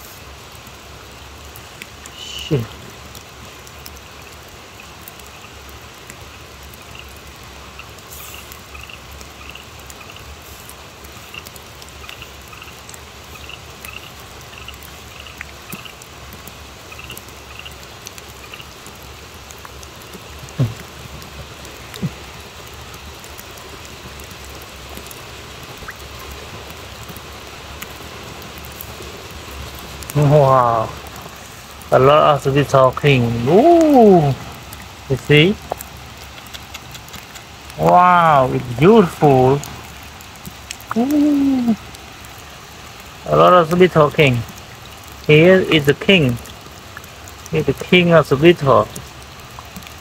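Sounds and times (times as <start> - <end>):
rain falling on wet ground: 0.0 - 50.0.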